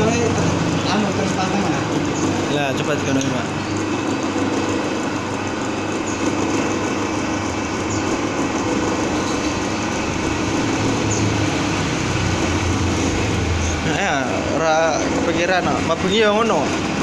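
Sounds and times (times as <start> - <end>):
motor drone: 0.0 - 17.0.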